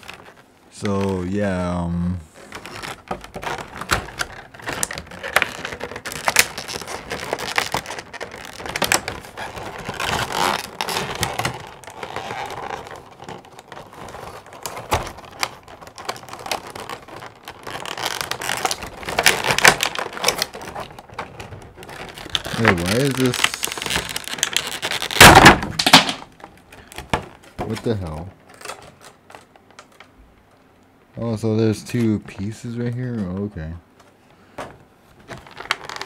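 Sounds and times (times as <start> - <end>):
packaging being handled and opened: 0.0 - 30.6, 31.2 - 36.0.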